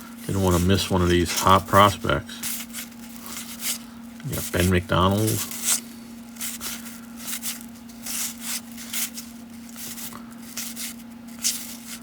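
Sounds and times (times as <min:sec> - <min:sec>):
cards rustling: 0:00.0 - 0:12.0
faint steady hum: 0:00.0 - 0:12.0.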